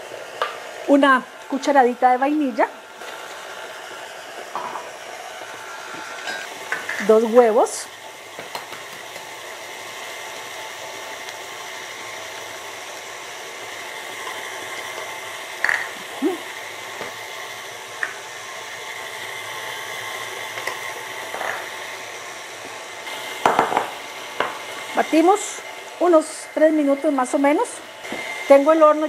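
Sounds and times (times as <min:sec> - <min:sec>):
stand mixer running: 0:00.0 - 0:29.0.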